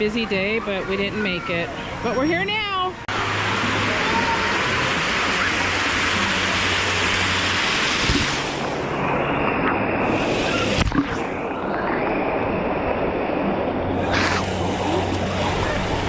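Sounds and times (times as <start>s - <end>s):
falling splashing water: 3.1s - 16.0s.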